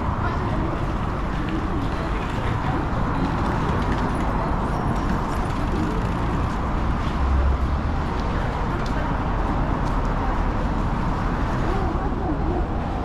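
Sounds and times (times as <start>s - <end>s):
passing traffic: 0.0s - 13.0s.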